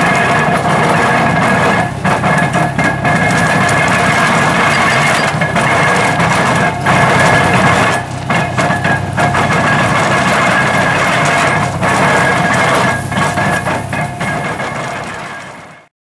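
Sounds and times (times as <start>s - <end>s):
hay baler clattering: 0.0s - 15.7s
engine drone: 0.0s - 15.9s.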